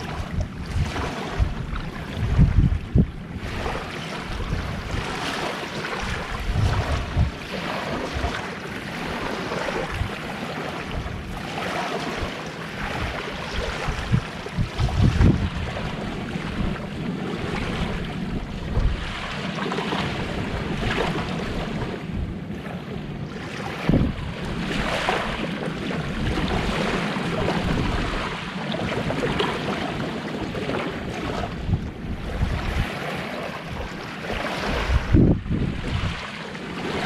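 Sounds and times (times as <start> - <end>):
sea waves washing ashore: 0.0 - 37.0
wind on microphone: 0.0 - 37.0.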